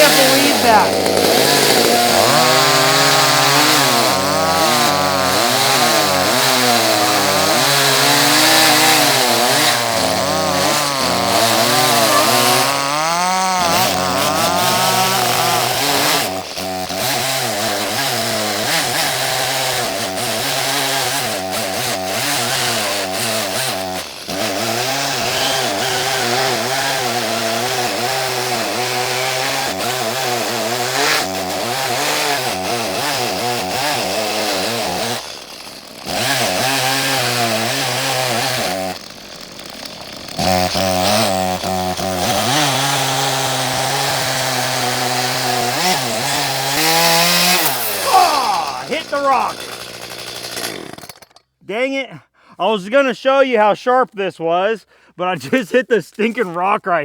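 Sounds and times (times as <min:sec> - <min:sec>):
chainsaw cutting wood: 0:00.0 - 0:51.6.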